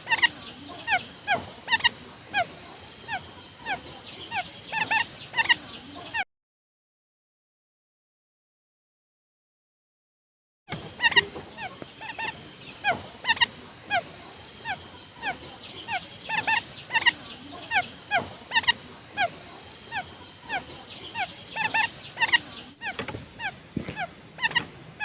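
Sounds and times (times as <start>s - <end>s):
quail calling: 0.0s - 6.2s, 10.7s - 25.0s.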